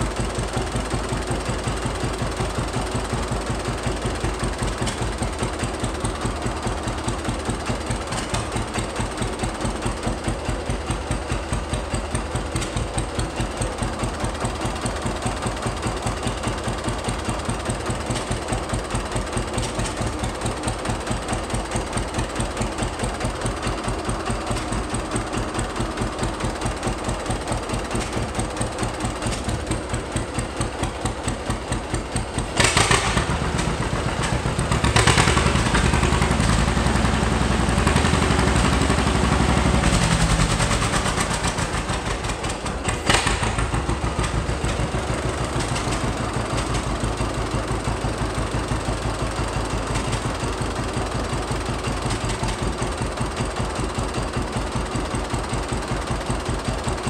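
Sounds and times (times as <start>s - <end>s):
tractor engine popping: 0.0s - 57.0s.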